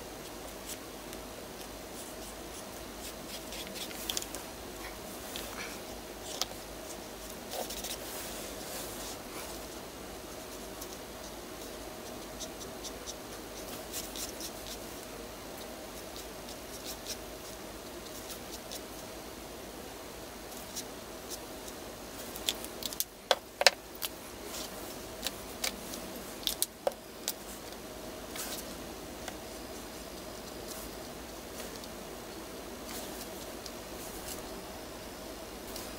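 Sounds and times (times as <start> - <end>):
steady hum: 0.0 - 35.9.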